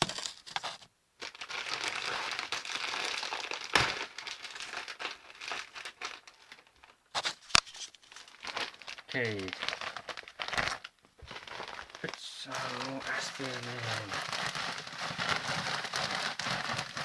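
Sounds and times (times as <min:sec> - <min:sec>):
bag crinkling and rustling: 0:00.0 - 0:17.0.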